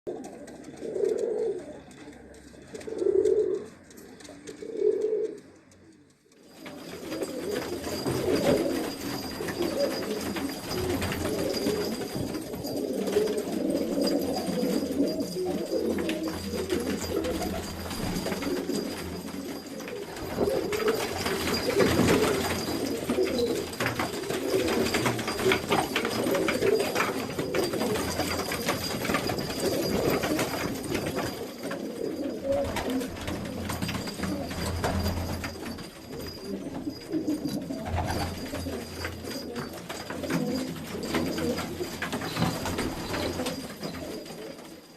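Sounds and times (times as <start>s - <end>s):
pigeons cooing: 0.1s - 5.6s, 6.5s - 44.9s.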